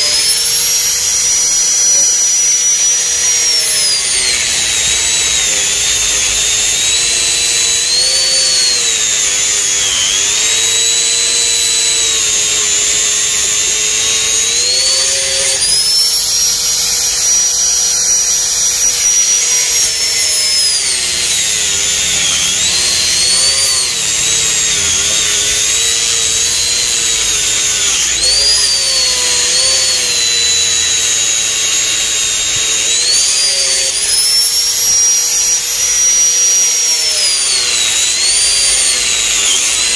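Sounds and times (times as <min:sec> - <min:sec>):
angle grinder cutting: 0:00.0 - 0:39.9.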